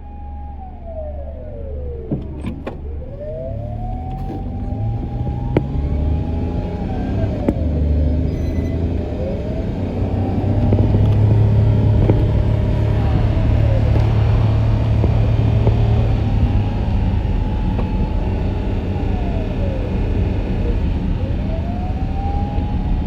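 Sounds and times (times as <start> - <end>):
emergency siren wailing: 0.0 - 23.0
heavy vehicle engine rumble: 0.0 - 23.0.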